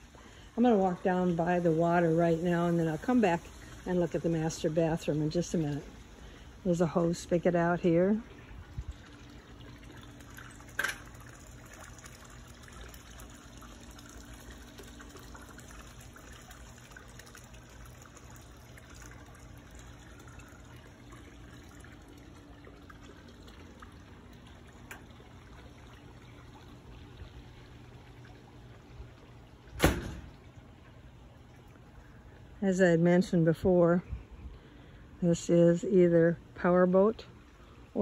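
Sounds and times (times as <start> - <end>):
trickle of running water: 0.0 - 38.0.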